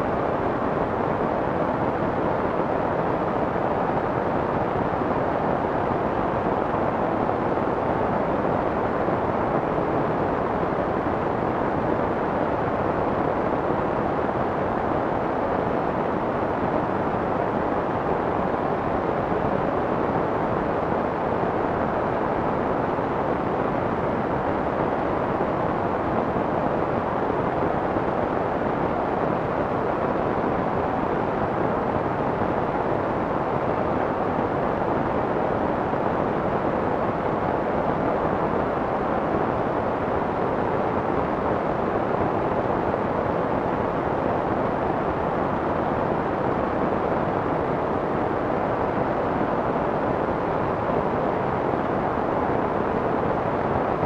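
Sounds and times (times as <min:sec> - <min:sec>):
soft muffled white noise: 0:00.0 - 0:54.0.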